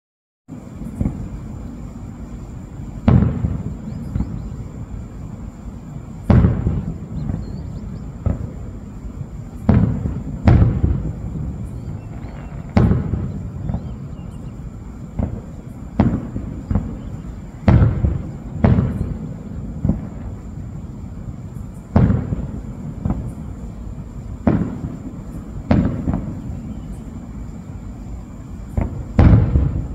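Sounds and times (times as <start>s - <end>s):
fireworks bursting with booms: 0.5s - 29.9s.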